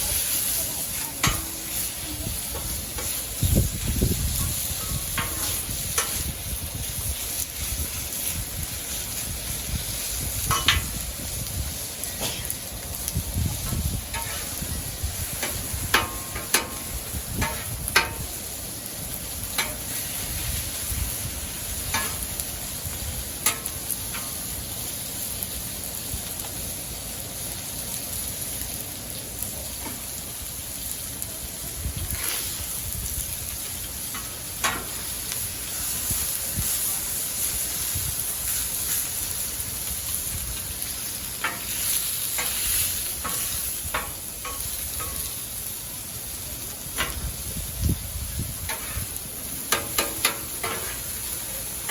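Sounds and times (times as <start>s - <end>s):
food sizzling on a griddle: 0.0s - 51.9s.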